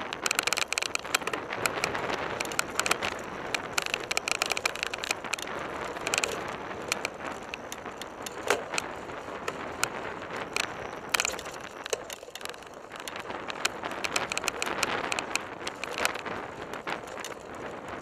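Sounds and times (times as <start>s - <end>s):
bike rattling over bumps: 0.0s - 18.0s
tyres on dirt: 0.0s - 18.0s.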